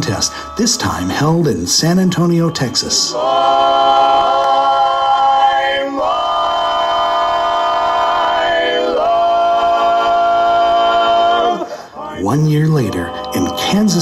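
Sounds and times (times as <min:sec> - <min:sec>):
male quartet singing a cappella: 0:00.0 - 0:14.0.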